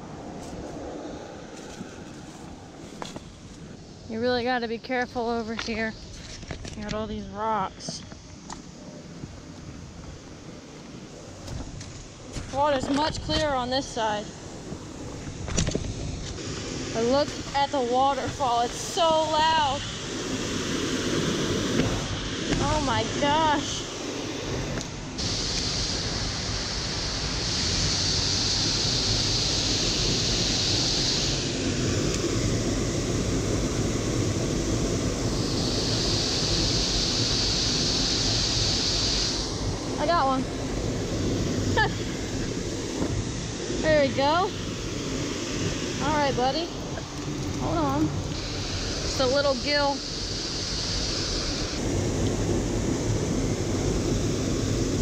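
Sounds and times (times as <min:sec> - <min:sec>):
small waterfall rushing: 0:10.8 - 0:55.0.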